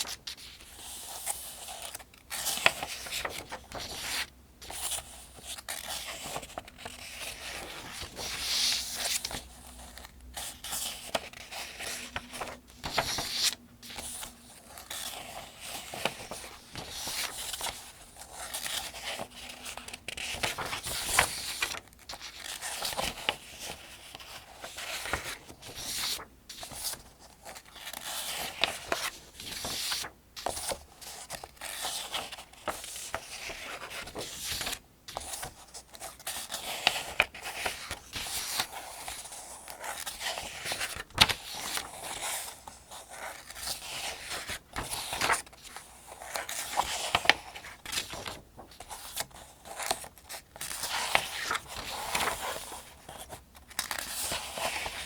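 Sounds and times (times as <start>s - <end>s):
paper pages turning: 0.0s - 55.0s.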